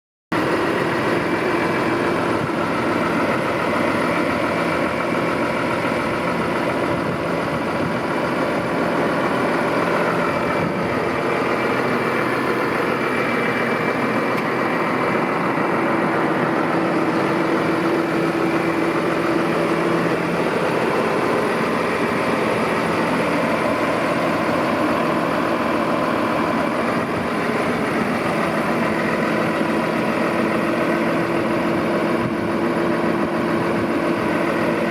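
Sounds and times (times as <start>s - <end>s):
tractor diesel engine idling: 0.3s - 34.9s.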